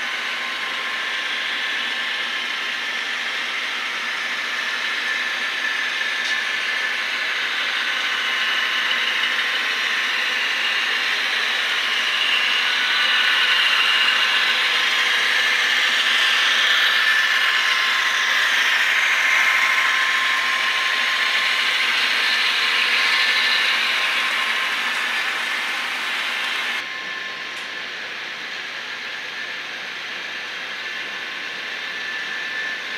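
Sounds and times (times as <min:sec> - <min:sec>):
model train motors whirring: 0:00.0 - 0:28.6.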